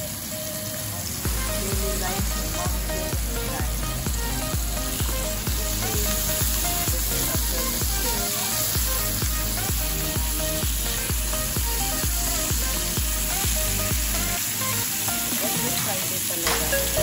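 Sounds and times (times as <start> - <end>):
background music with steady beat: 0.0 - 17.0
fish sizzling in frying pan: 0.0 - 17.0.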